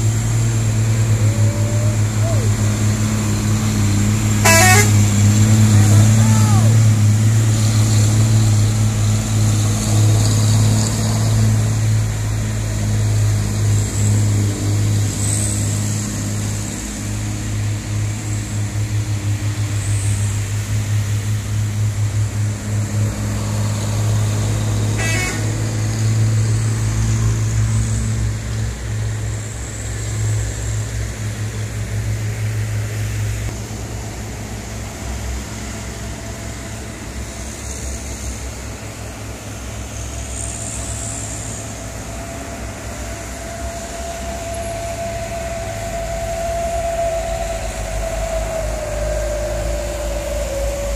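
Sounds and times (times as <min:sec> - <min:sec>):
diesel truck engines droning: 0:00.0 - 0:50.9.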